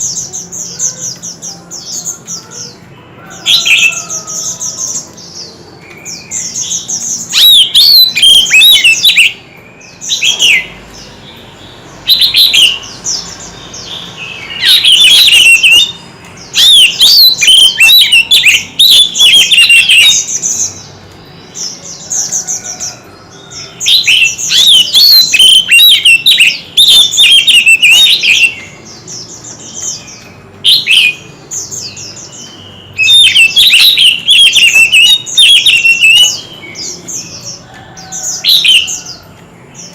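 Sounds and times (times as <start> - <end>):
bird singing whistles and trills: 0.0 - 39.2.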